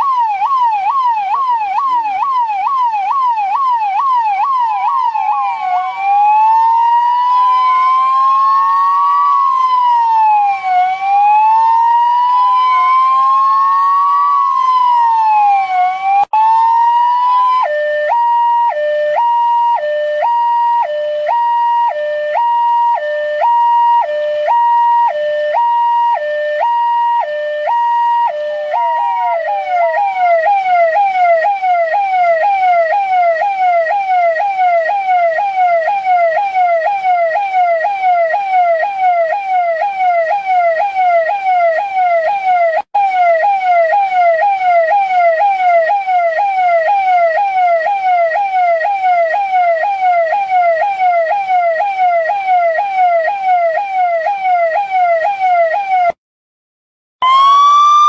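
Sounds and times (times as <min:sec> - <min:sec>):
two-tone electronic siren: 0:00.0 - 0:56.2, 0:57.2 - 0:58.0.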